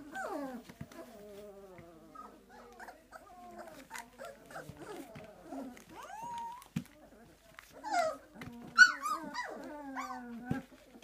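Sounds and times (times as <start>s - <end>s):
puppies whimpering and whining: 0.0s - 11.0s.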